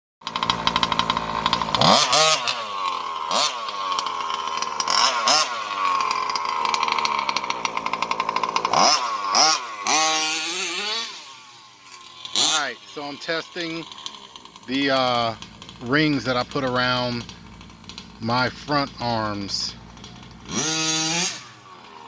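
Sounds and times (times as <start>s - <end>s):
small two-stroke engine revving: 0.2s - 22.0s.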